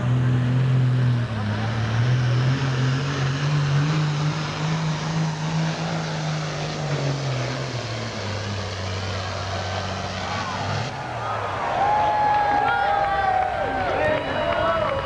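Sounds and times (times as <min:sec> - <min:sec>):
diesel tractor engine under load: 0:00.0 - 0:15.0.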